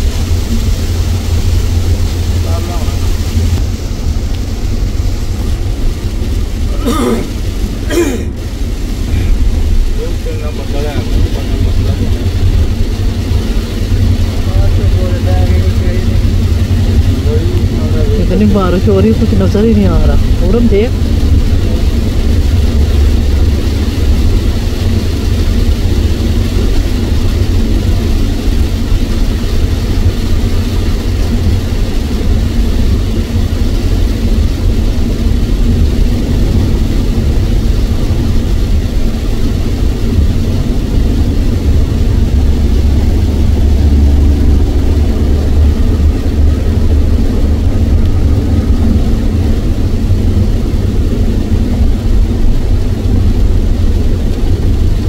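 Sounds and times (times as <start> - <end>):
rain and spray hissing: 0.0 - 55.0
tyres and engine rumbling: 0.0 - 55.0.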